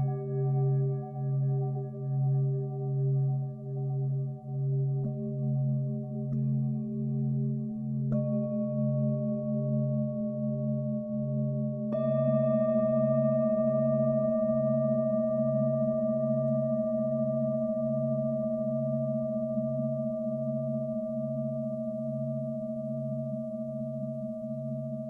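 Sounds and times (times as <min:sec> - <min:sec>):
singing bowl ringing: 0:00.0 - 0:22.2
deep pulsing bowl tone: 0:00.0 - 0:25.0.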